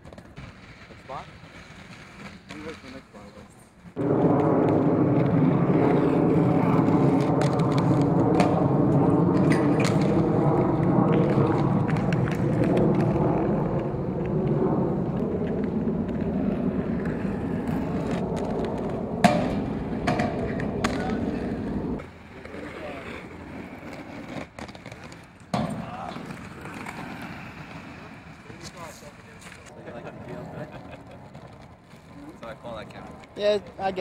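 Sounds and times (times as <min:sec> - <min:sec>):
skates grinding metal barrier: 0:00.0 - 0:34.0.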